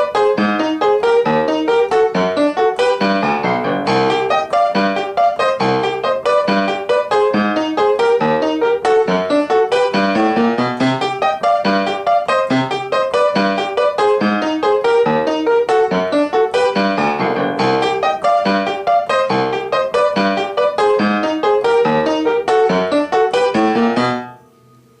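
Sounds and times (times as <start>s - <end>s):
piano instrumental music: 0.0s - 25.0s.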